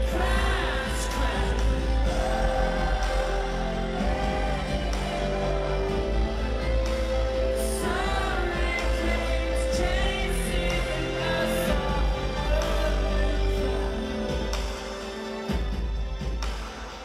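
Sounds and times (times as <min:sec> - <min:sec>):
person singing: 0:00.0 - 0:15.7.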